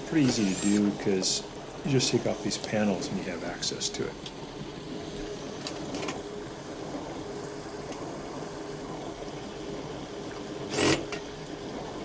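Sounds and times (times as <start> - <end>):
dishwasher motor hum: 0.0 - 12.0
dishwasher water noise: 0.0 - 12.0.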